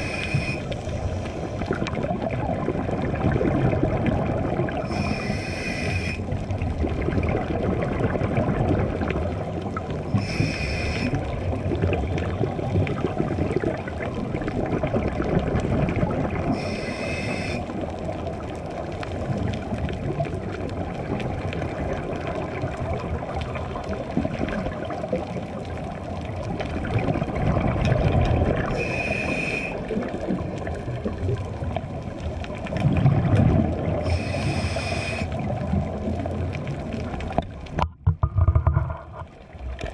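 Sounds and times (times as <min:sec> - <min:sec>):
exhaled bubbles burbling: 0:00.0 - 0:39.9
muffled underwater rumble: 0:00.0 - 0:39.9.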